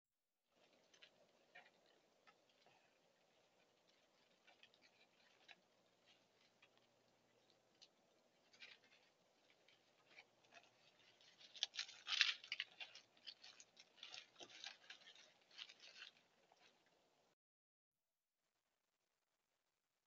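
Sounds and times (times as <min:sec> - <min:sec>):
animals rustling through leafy plants: 0:00.6 - 0:16.9.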